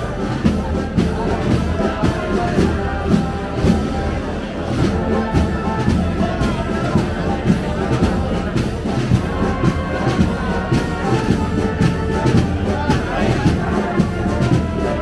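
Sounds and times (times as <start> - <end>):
brass band playing a march: 0.0 - 15.0
steady drum beat: 0.0 - 15.0.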